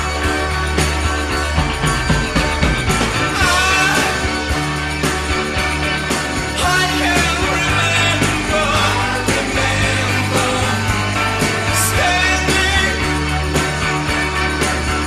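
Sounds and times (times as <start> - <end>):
rock music with steady beat: 0.0 - 15.0.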